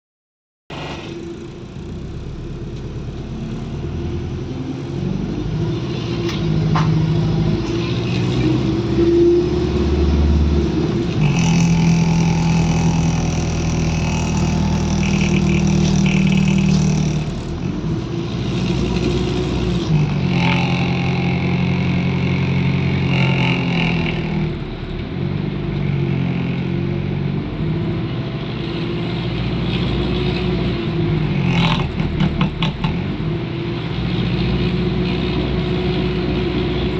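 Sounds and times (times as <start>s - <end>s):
bus diesel engine pulling away: 0.7s - 36.9s
engine whine: 0.7s - 36.9s.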